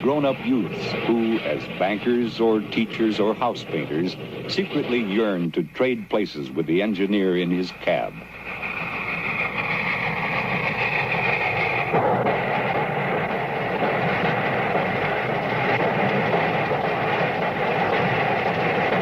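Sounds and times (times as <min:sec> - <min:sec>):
steam train running: 0:00.0 - 0:19.0.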